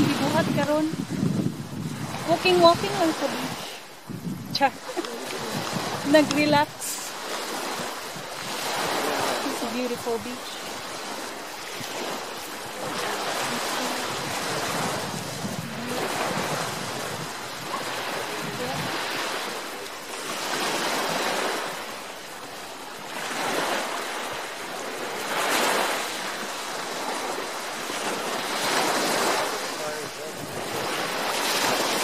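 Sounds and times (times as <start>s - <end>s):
small waves washing onto sand: 0.0s - 32.0s.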